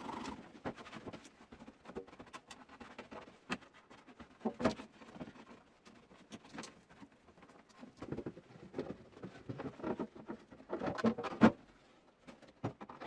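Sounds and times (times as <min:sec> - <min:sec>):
light taps clicks and scrapes: 0:00.6 - 0:13.0.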